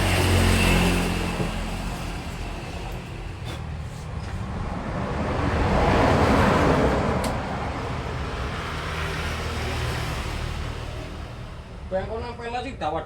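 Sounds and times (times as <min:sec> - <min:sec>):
vehicle passing by rushing: 0:00.0 - 0:02.8, 0:04.4 - 0:12.2.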